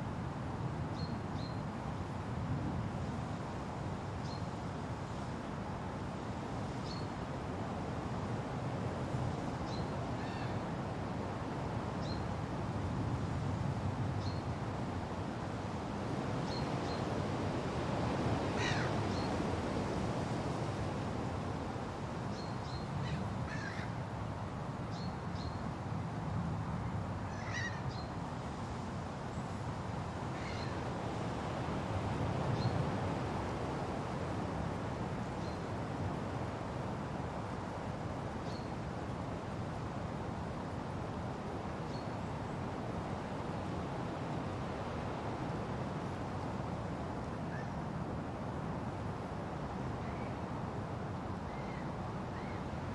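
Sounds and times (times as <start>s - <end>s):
wind rushing through trees: 0.0s - 52.9s.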